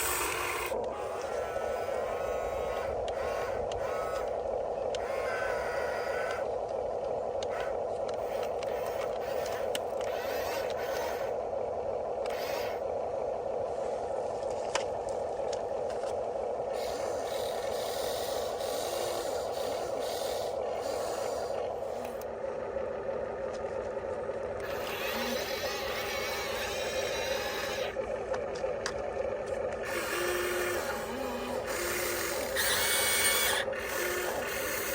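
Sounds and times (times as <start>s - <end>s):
small electric motors whining: 0.0s - 34.9s.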